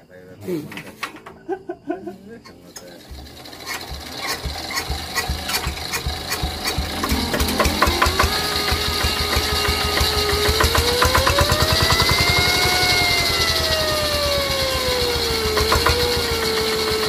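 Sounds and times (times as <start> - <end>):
engine whine: 1.0 - 17.0
diesel engine starting up: 2.7 - 17.0.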